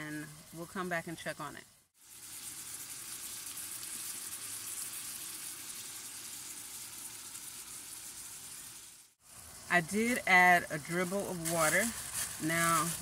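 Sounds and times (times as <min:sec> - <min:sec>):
meat sizzling in a pan: 0:01.8 - 0:13.0.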